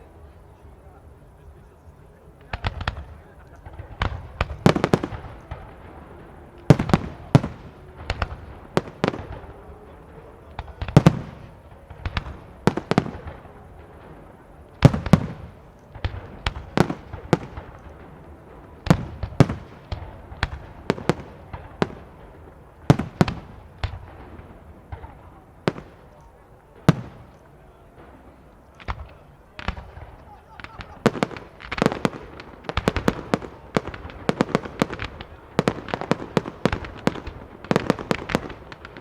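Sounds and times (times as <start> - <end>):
rolling echo of bangs: 2.6 - 39.0.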